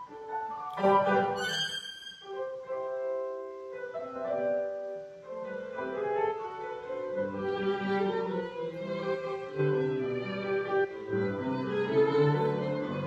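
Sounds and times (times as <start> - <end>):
violin melody: 0.0 - 3.9, 5.3 - 13.0
keyboard accompaniment: 0.0 - 13.0.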